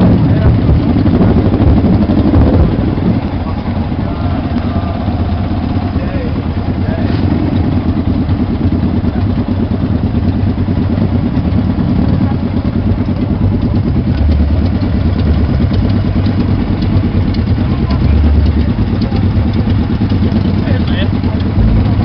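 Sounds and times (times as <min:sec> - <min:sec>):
many motorcycle engines idling: 0:00.0 - 0:22.0.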